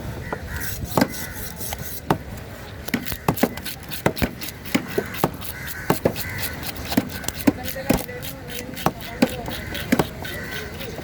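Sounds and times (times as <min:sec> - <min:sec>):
knife scraping: 0:00.5 - 0:11.0
knife chopping on wooden block: 0:00.6 - 0:02.3, 0:02.9 - 0:11.0.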